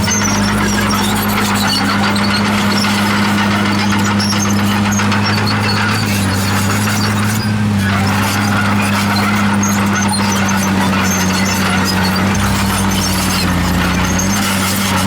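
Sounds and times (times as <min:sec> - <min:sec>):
bulldozer diesel engine drone: 0:00.0 - 0:15.0
steel tracks squeaking: 0:00.0 - 0:15.0.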